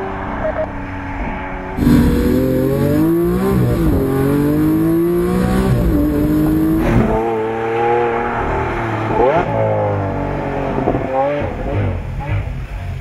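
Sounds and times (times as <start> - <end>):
sports car accelerating hard: 0.0 - 13.0.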